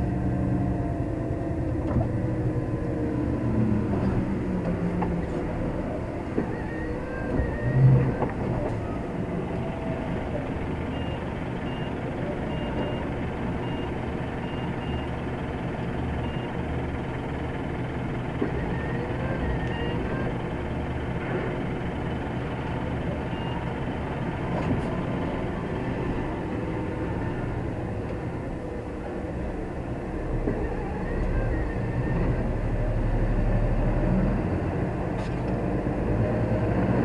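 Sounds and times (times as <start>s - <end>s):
heavy truck running: 0.0s - 37.0s.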